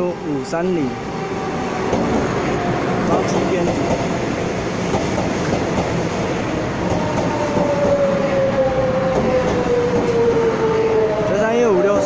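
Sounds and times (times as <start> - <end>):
train wheels on rails: 0.5 - 12.0.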